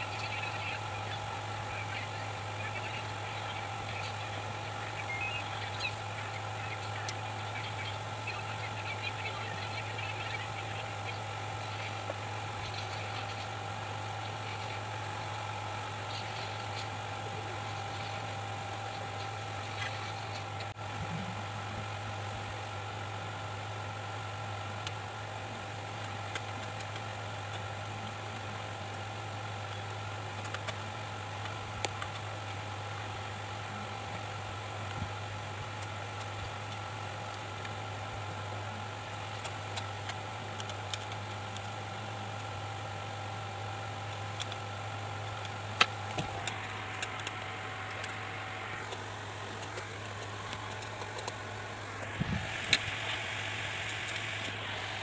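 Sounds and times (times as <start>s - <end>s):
electric hum: 0.0s - 55.0s
motor whine: 0.0s - 55.0s.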